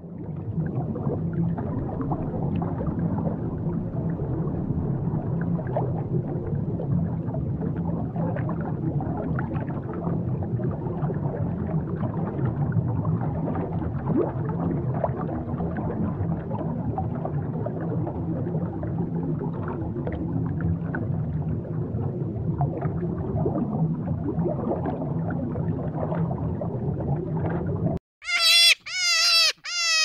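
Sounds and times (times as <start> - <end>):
muffled underwater rush: 0.0 - 28.0.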